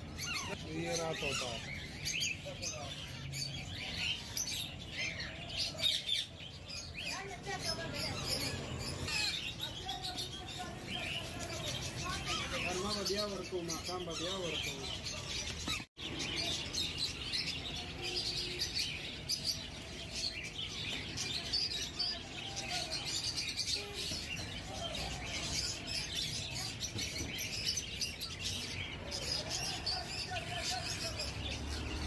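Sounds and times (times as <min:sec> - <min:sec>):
parakeet chicks chirping: 0:00.0 - 0:32.0.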